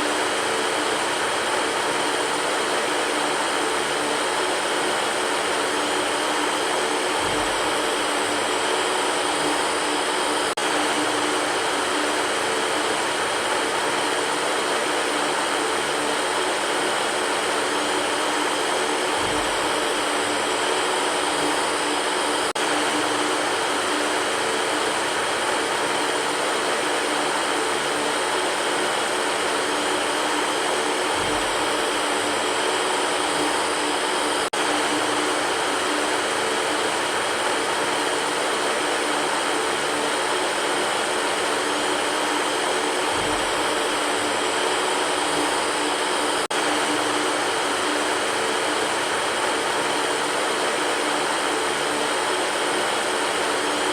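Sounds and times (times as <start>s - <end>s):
electric fan running: 0.0s - 53.9s.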